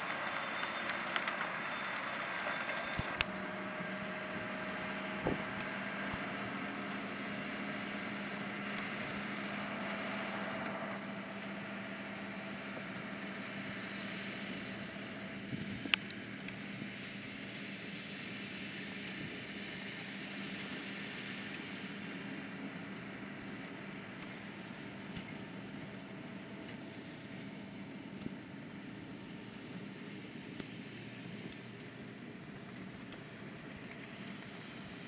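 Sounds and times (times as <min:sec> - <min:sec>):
tractor engine drone: 0:00.0 - 0:35.0.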